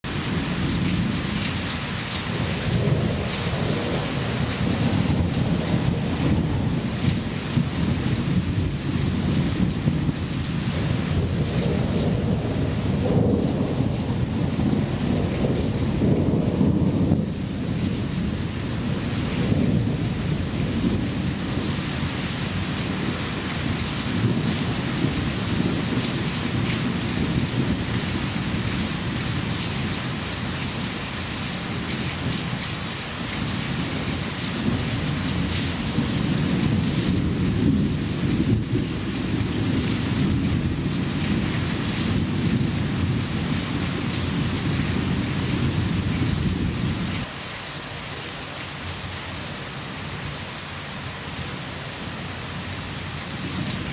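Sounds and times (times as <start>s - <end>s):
steady rain: 0.0s - 53.9s
thunder rumbling: 0.1s - 32.6s, 33.2s - 47.3s.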